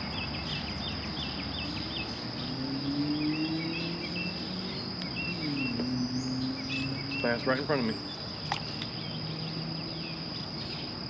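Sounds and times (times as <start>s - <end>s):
bird chirps: 0.0s - 11.0s
insects trilling: 0.0s - 11.0s.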